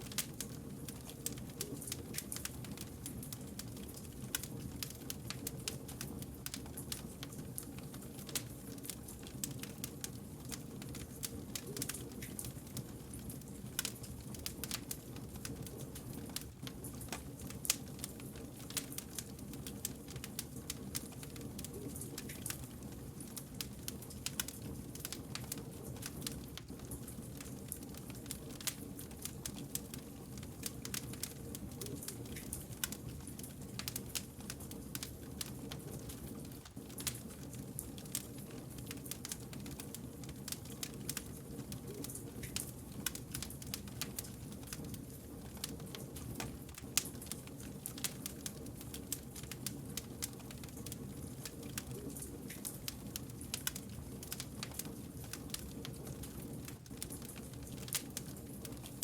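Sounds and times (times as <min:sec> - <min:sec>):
campfire crackling and snapping: 0:00.0 - 0:59.0.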